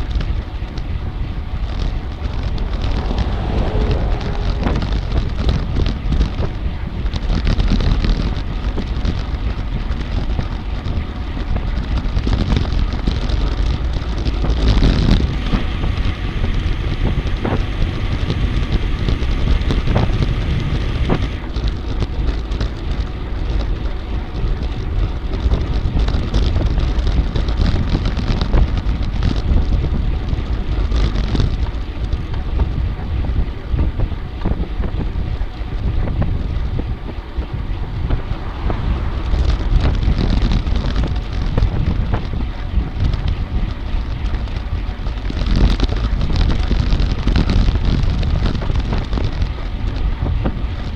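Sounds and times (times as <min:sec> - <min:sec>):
steady rumbling noise: 0:00.0 - 0:50.9
wind buffeting microphone: 0:00.0 - 0:50.9.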